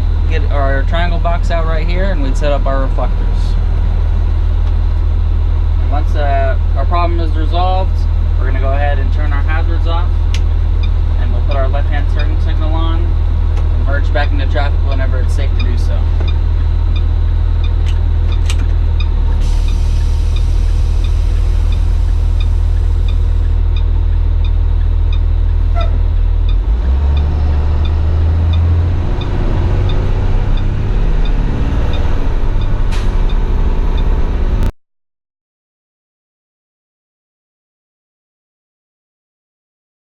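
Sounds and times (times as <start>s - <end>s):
bus engine idling: 0.0s - 34.7s.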